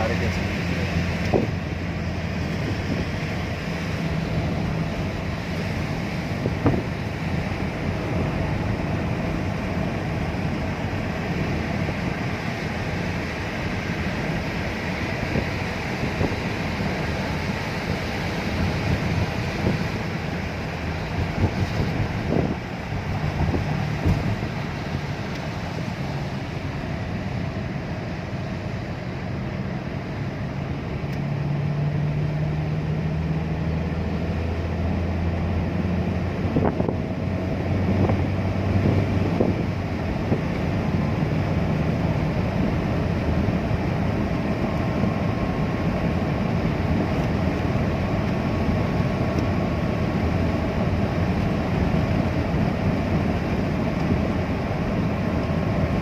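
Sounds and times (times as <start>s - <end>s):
car driving on wet road: 0.0s - 56.0s
low engine hum: 0.0s - 56.0s.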